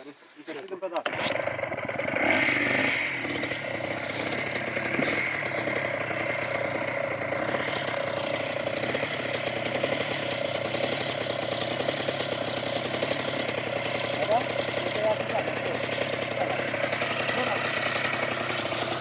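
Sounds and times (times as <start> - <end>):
motorcycle engine idling: 1.1 - 19.0.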